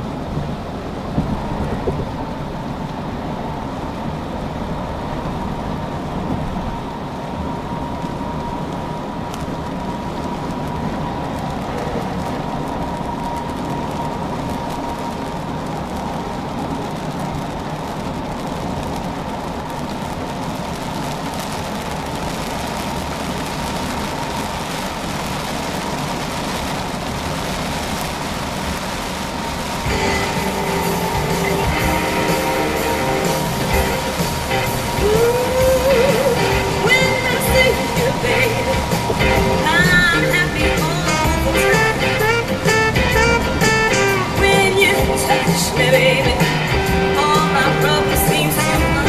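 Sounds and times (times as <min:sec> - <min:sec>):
rushing water and tyre noise: 0:00.0 - 0:49.0
raindrops ticking on glass: 0:07.3 - 0:49.0.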